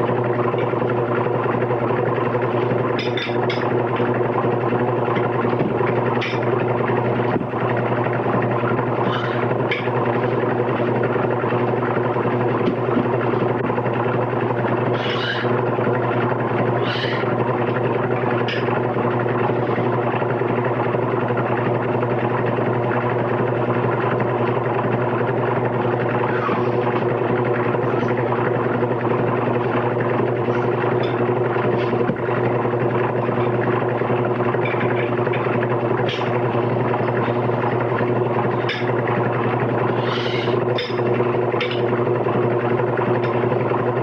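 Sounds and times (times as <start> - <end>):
machine drone with low hum: 0.0 - 44.0.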